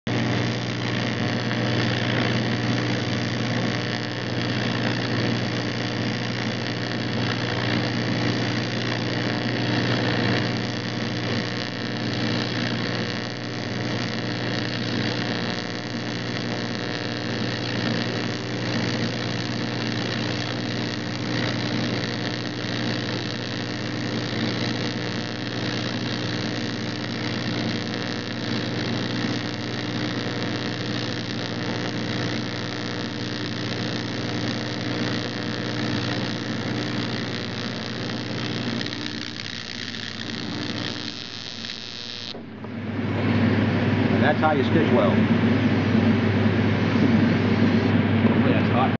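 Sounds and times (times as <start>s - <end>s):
welder electrical hum: 0.0s - 48.9s
welding arc crackling hiss: 0.1s - 42.6s, 44.2s - 45.2s.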